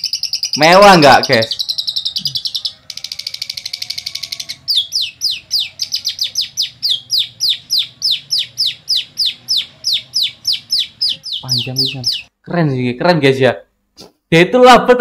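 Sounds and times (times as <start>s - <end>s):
bird singing trills and whistles: 0.0s - 12.3s.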